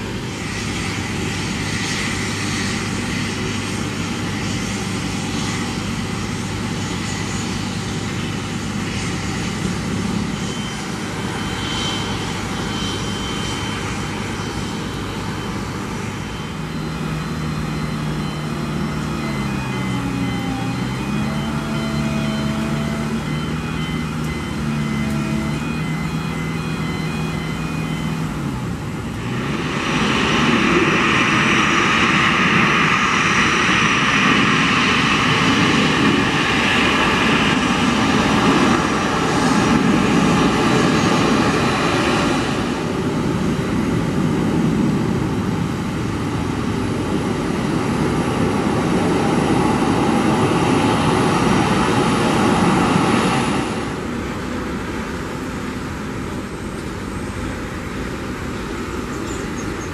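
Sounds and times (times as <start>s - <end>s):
jet engine whine and rumble: 0.0s - 59.9s.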